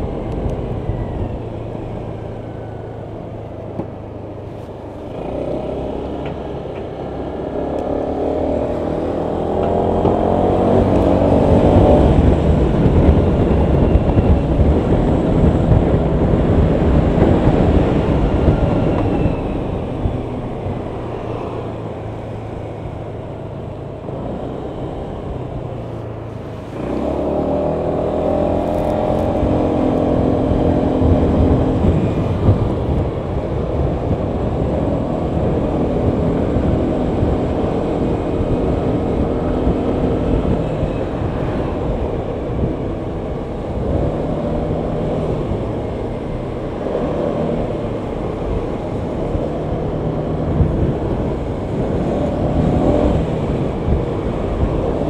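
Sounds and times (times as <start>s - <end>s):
scooter engine accelerating: 0.0s - 55.0s
wind and road noise: 0.0s - 55.0s.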